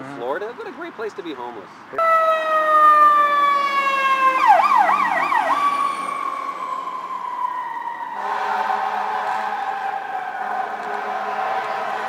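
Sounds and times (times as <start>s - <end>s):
emergency vehicle siren wailing: 2.0s - 12.0s.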